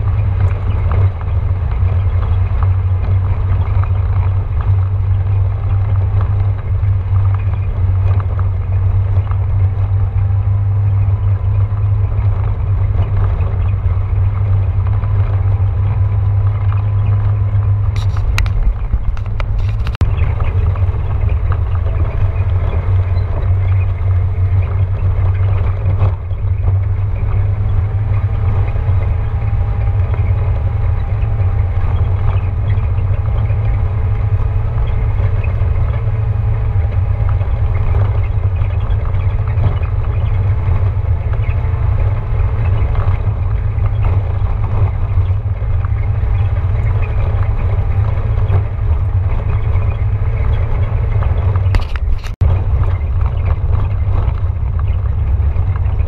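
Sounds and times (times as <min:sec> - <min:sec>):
vehicle engine and tyres rumbling: 0:00.0 - 0:56.0.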